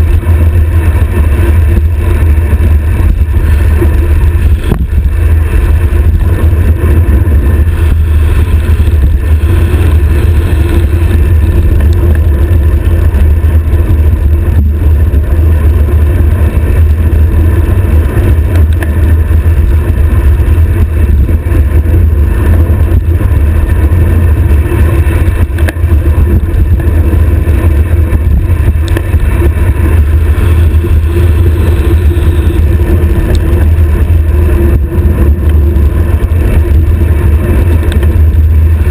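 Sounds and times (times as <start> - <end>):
wind roar on microphone: 0.0 - 38.9.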